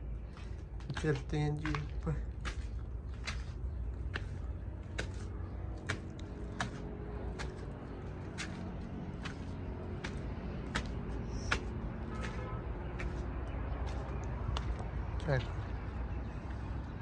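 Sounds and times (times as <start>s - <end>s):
footsteps climbing stairs: 0.2s - 14.9s.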